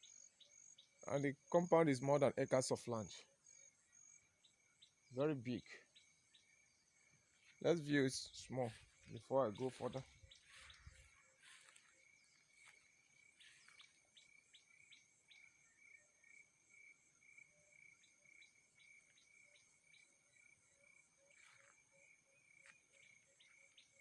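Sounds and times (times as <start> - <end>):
insects chirping in a trill: 0.0 - 24.0.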